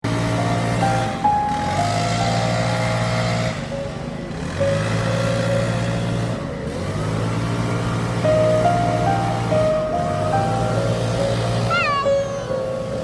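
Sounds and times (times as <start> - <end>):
synth melody: 0.0 - 6.9, 7.6 - 13.0.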